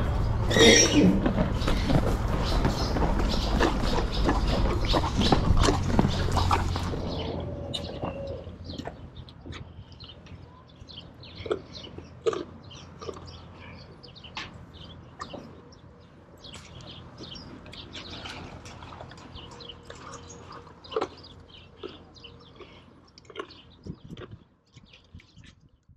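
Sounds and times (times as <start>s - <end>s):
horses crunching carrots: 0.0s - 25.6s.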